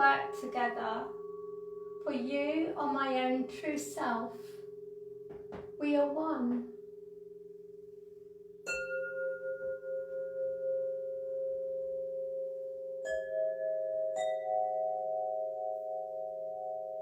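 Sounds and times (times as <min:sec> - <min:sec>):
singing bowls struck and ringing: 0:00.0 - 0:17.0.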